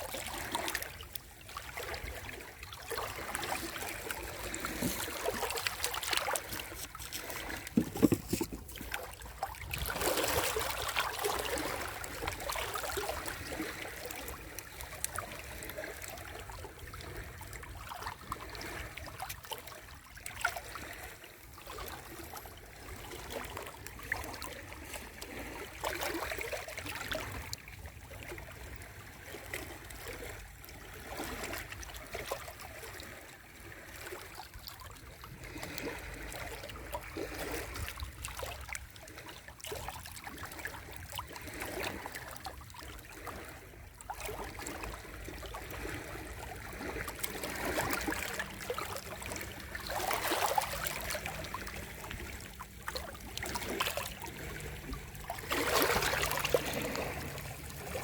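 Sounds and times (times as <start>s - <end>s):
small waves washing ashore: 0.0s - 58.0s.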